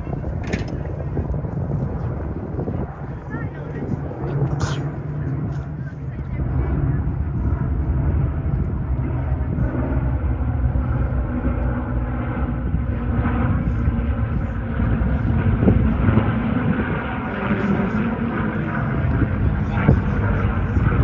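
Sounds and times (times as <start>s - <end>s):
piston aircraft engine running: 0.0s - 21.0s.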